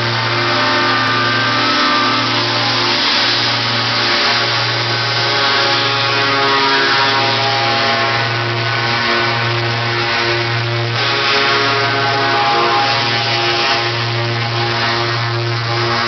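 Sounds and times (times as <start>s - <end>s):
truck diesel engines running: 0.0s - 16.0s.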